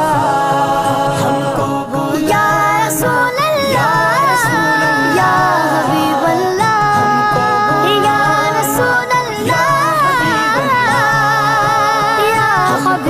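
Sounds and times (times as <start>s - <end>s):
held musical backing: 0.0s - 13.0s
solo devotional singing: 0.0s - 13.0s.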